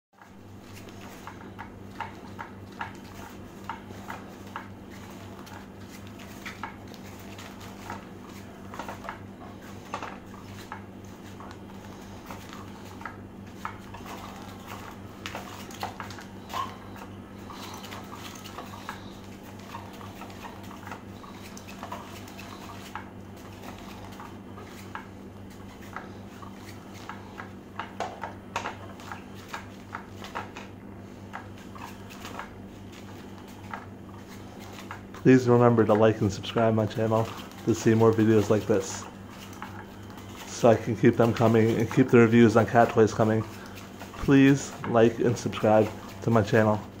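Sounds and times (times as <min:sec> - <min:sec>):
motorised cat toy humming: 0:00.2 - 0:47.0.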